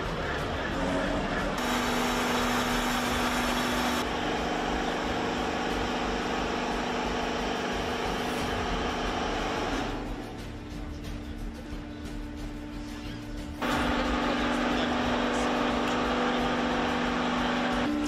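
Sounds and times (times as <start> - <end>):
heavy machinery droning hum: 0.0 - 10.9, 12.6 - 18.0.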